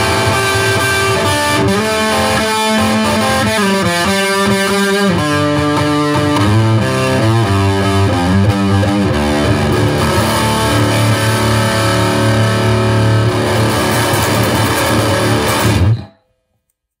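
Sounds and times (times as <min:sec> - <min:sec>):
electric guitar blues riff: 0:00.0 - 0:16.1.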